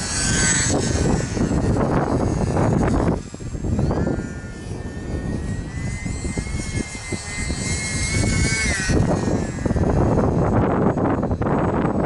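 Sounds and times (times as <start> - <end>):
rc plane motor whining: 0.0 - 12.0
wind buffeting microphone: 0.0 - 12.0.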